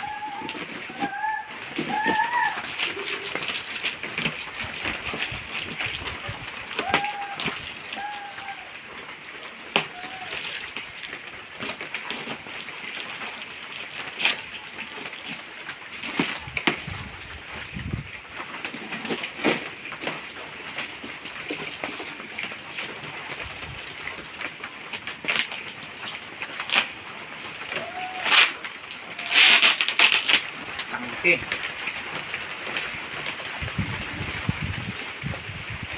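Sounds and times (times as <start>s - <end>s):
plastic wrapping crinkling: 0.0s - 35.9s.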